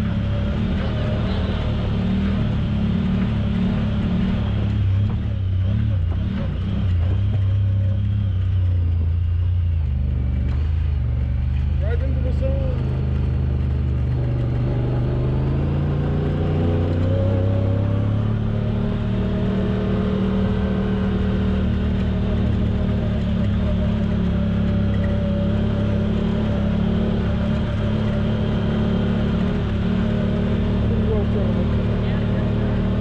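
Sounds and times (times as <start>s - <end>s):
off-road vehicle engine running: 0.0s - 33.0s.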